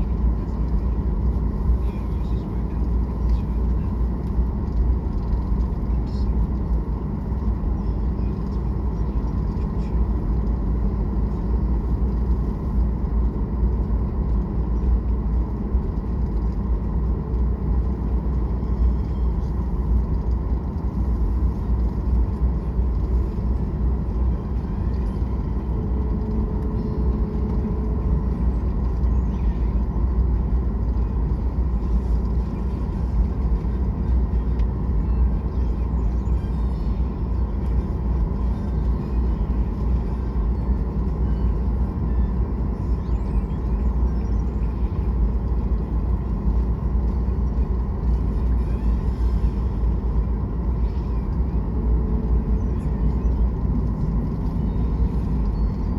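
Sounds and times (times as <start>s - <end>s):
jet engines rumbling: 0.0s - 55.9s.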